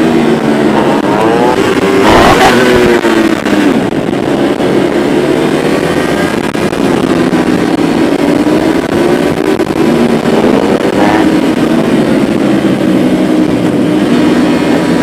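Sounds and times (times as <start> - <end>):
motorcycle engines running: 0.0 - 15.0
steady rush of noise: 0.0 - 15.0.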